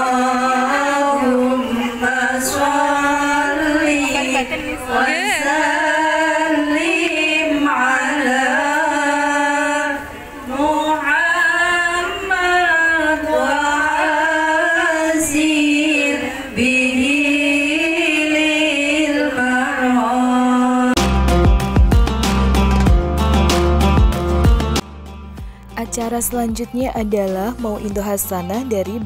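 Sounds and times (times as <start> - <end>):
woman singing unaccompanied: 0.0 - 21.0, 25.8 - 29.0.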